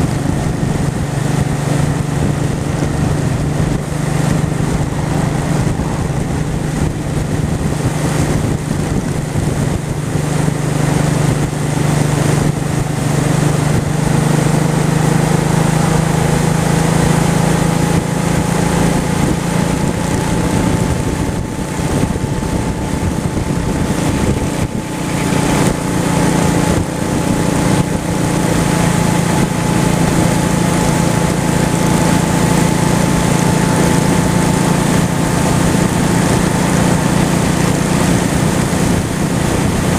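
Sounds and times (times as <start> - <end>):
motorcycle engine running: 0.0 - 39.9
road noise: 0.0 - 39.9
rushing wind: 0.0 - 39.9.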